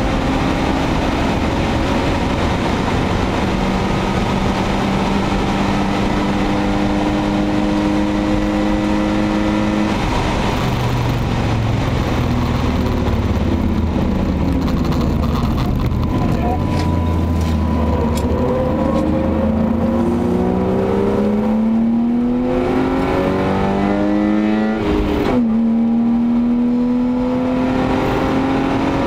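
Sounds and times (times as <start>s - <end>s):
car engine under load: 0.0s - 29.0s
tyre and road noise: 0.0s - 29.0s.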